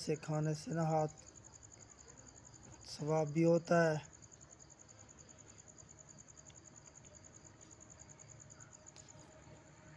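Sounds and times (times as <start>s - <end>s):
crickets chirping: 0.0s - 9.9s.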